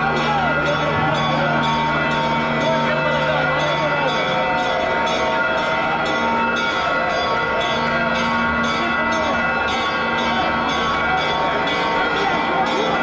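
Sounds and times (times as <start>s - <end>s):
church bells pealing: 0.0s - 13.0s
crowd voices: 0.0s - 13.0s.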